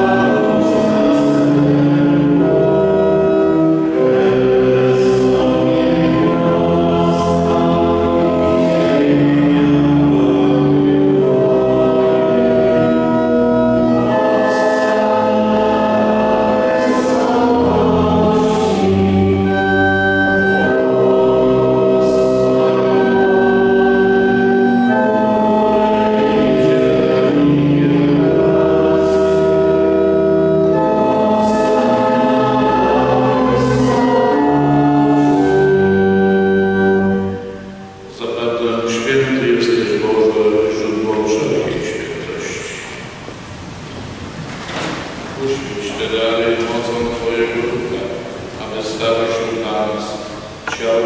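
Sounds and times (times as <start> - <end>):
voices singing a hymn: 0.0 - 43.5, 44.2 - 51.0.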